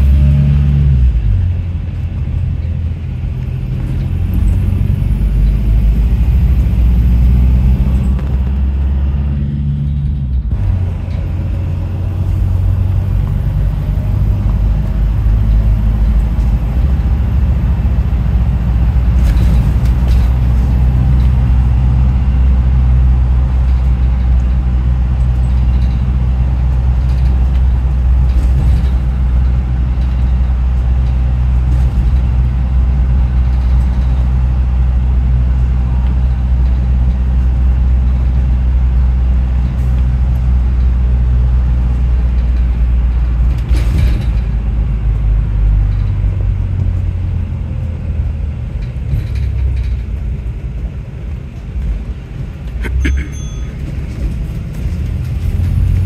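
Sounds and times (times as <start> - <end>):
bus drive hum: 0.0 - 56.0
road rumble: 0.0 - 56.0.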